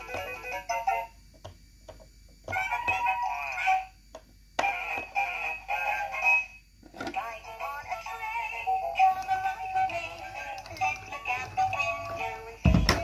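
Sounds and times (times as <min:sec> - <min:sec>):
toy playing electronic sung phrases: 0:00.0 - 0:01.2, 0:02.5 - 0:04.0, 0:04.6 - 0:13.0.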